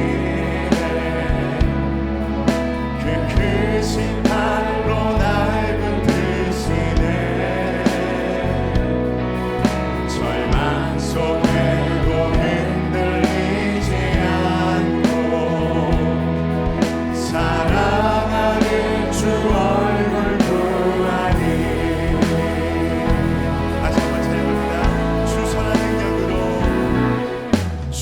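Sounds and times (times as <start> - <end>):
bass notes: 0.0 - 28.0
people singing: 0.0 - 28.0
steady drum beat: 0.0 - 28.0
worship band playing: 0.0 - 28.0.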